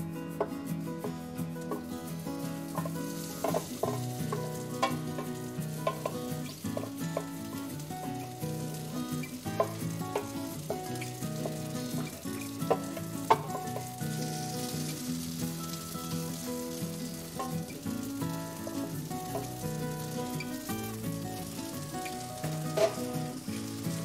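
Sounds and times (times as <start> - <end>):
soft background music: 0.0 - 24.0
food frying in oil: 0.4 - 24.0
utensil clicking against pan: 1.6 - 24.0.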